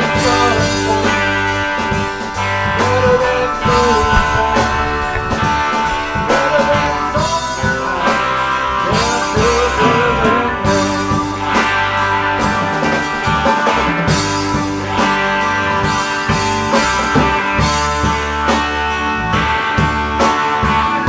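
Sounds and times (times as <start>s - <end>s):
drum kit: 0.0s - 21.0s
electric guitar: 0.0s - 21.0s.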